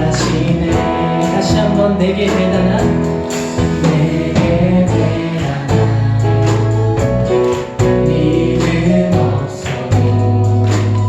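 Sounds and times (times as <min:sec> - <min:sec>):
band playing with guitar: 0:00.0 - 0:11.0
steady drum beat: 0:00.0 - 0:11.0.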